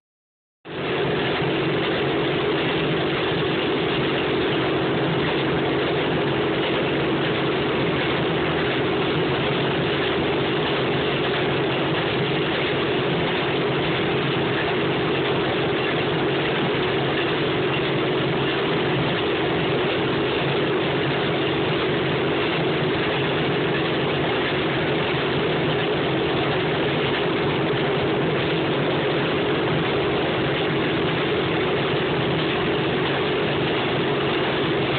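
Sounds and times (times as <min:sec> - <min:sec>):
engine droning steadily: 0:00.7 - 0:34.9.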